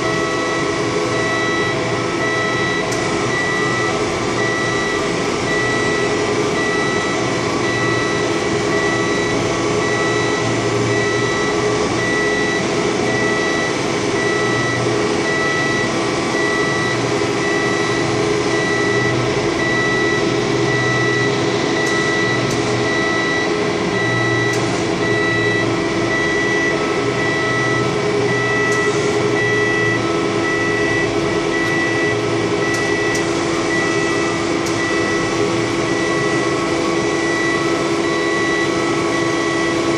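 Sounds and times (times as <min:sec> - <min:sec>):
boom lift drive humming: 0:00.0 - 0:39.9
motion alarm beeping: 0:00.0 - 0:39.9.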